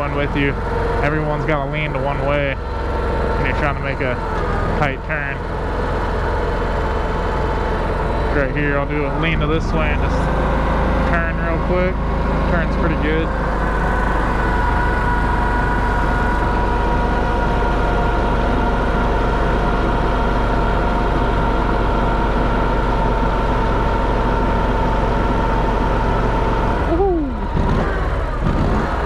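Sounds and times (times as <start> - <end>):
amphibious vehicle engine running: 0.0 - 29.0.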